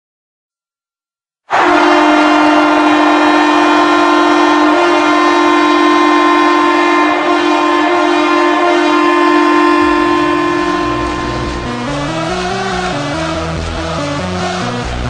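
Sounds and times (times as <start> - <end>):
goal horn long blast: 1.5 - 13.7.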